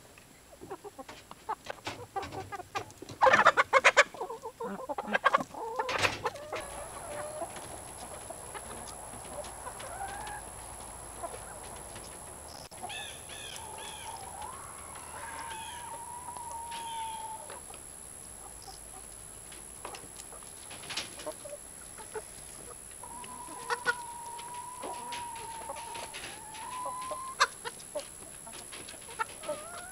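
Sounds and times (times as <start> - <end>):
chickens clucking and calling: 0.2 - 29.9.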